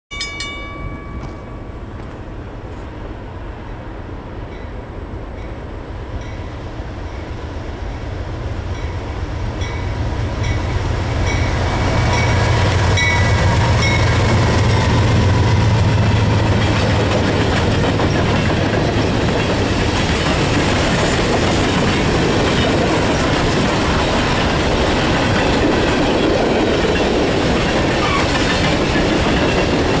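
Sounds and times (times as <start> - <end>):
diesel locomotives humming: 0.1 - 30.0
train wheels clickety-clack on rails: 5.3 - 30.0.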